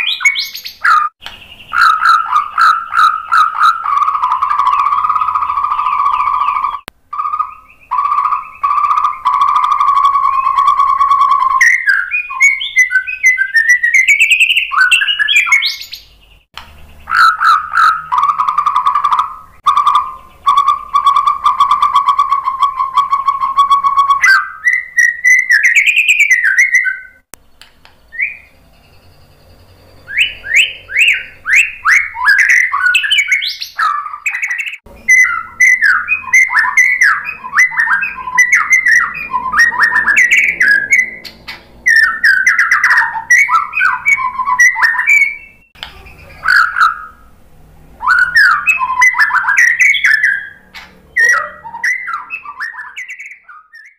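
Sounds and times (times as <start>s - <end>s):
bird singing whistles and warbles: 0.0s - 47.4s, 48.0s - 53.9s.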